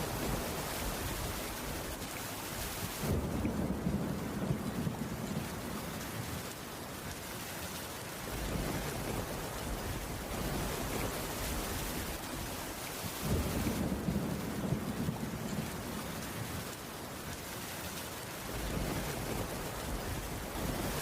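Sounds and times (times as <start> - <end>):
low rumble of thunder: 0.0 - 6.6, 8.2 - 16.8, 18.4 - 21.0
heavy rain: 0.0 - 21.0.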